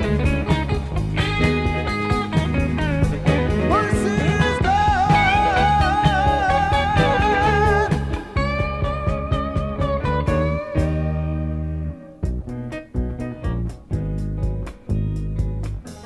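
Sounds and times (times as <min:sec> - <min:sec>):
steady drum beat: 0:00.0 - 0:11.2, 0:12.3 - 0:16.0
bass: 0:00.0 - 0:16.0
electric guitar lead: 0:00.0 - 0:16.0.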